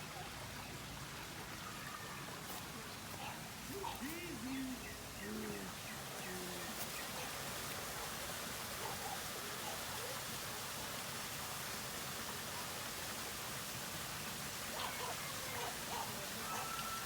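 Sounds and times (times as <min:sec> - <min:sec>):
steady background hiss: 0:00.0 - 0:14.8.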